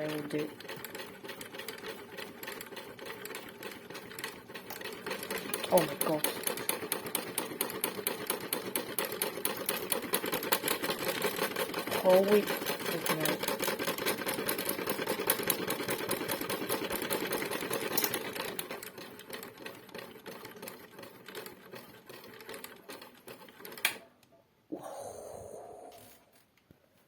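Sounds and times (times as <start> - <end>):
toy washing machine rattling: 0.0 - 24.0.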